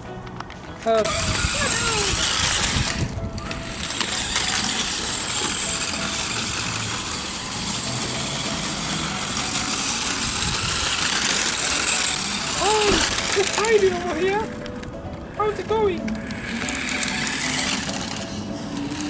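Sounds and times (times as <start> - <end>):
toy electric motor whine: 1.0 - 14.6, 15.4 - 19.0
noisy rumble: 1.0 - 19.0.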